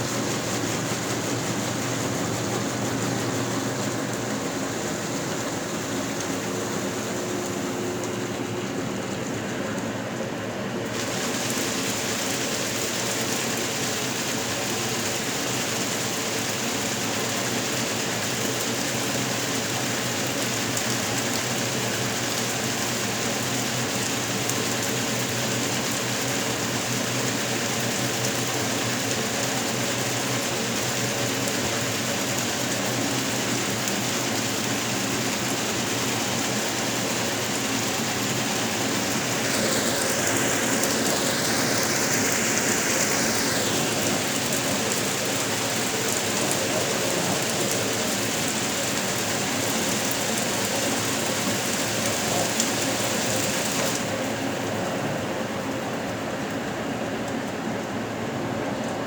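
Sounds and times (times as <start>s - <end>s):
water splashing in washing machine: 0.0s - 59.0s.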